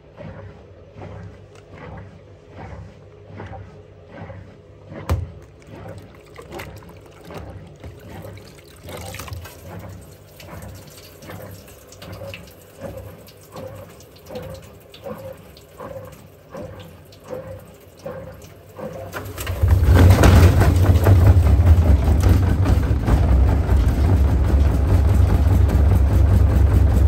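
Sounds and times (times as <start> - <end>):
washer drum turning: 4.9 - 27.0
water dripping into washer drum: 5.0 - 27.0.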